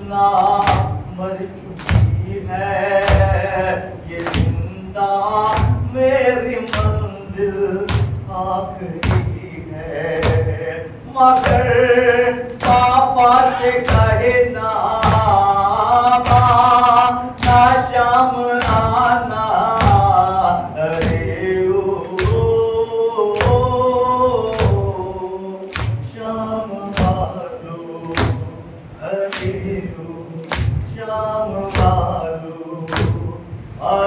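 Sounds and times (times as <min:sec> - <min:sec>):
man chanting a lament: 0:00.0 - 0:34.0.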